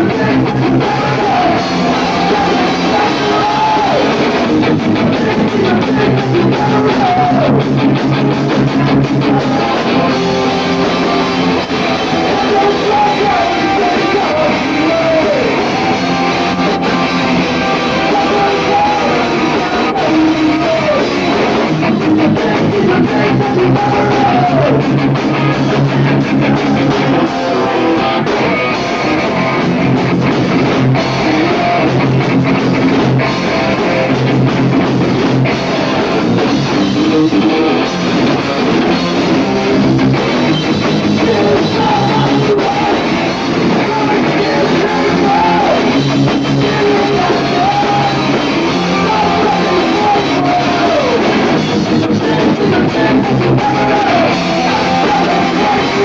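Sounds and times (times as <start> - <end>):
person singing: 0.0 - 7.8, 8.4 - 29.7, 36.8 - 38.0, 41.0 - 56.0
live punk rock band: 0.0 - 56.0.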